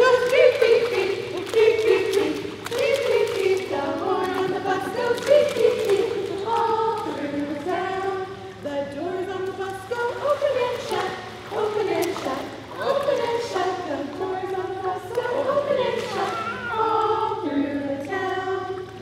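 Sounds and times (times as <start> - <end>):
group singing unaccompanied: 0.0 - 19.0.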